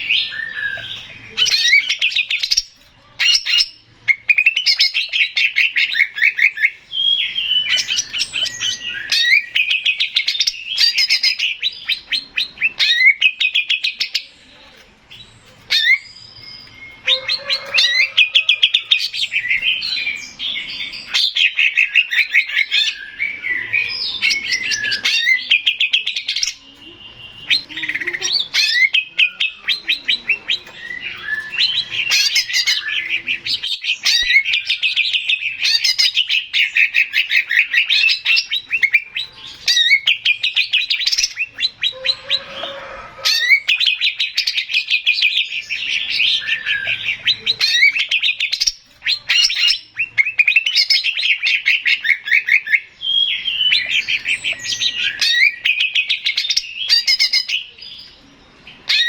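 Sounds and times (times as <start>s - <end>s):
bird singing trills and whistles: 0.0s - 59.0s.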